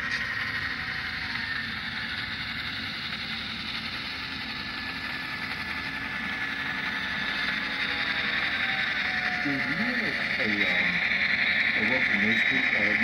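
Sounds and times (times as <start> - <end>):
faint steady whine: 0.0 - 13.0
model train mechanical hum and hiss: 0.0 - 13.0.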